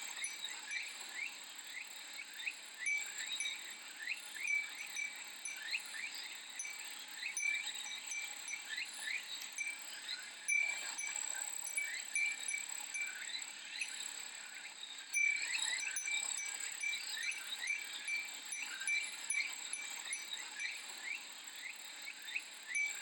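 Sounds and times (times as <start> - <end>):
glass wind chime tinkling: 0.0 - 23.0
cicada drone: 0.1 - 23.0.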